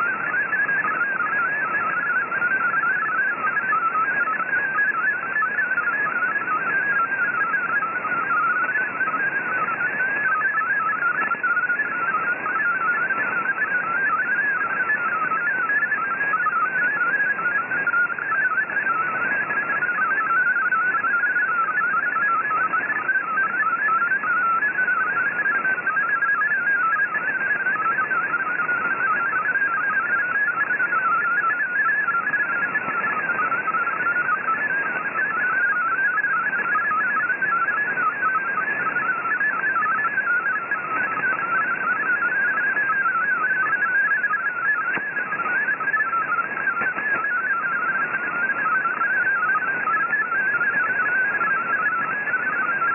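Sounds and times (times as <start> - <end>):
warbling digital data tones: 0.0 - 52.9.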